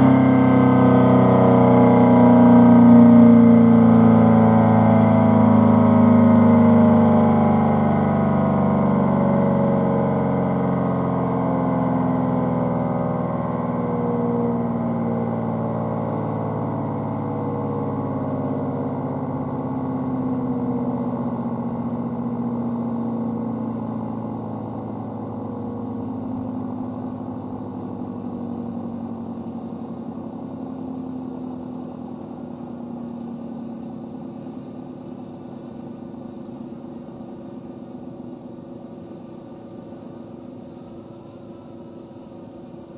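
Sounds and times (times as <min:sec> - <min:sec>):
warning siren winding down: 0:00.0 - 0:34.5.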